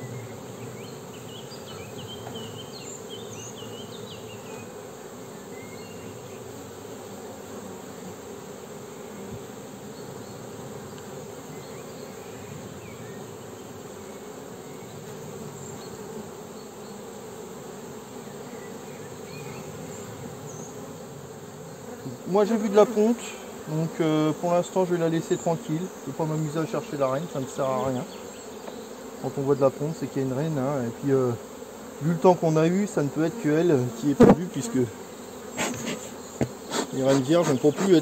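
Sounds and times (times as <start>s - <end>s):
honeybees buzzing: 0.0s - 38.0s.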